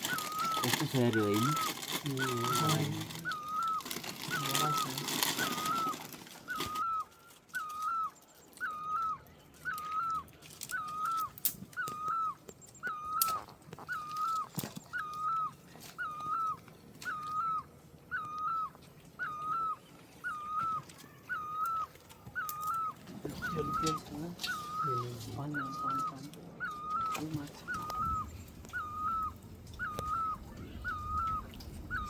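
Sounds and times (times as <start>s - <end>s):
animal whining call: 0.0s - 32.0s.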